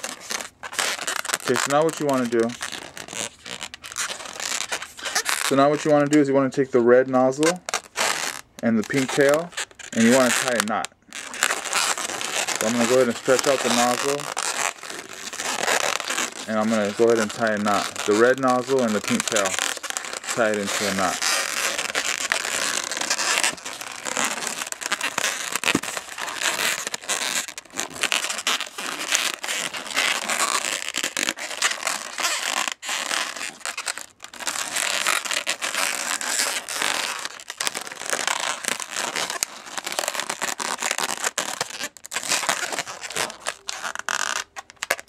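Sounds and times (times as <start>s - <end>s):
balloons rubbing and scraping: 0.0s - 45.0s.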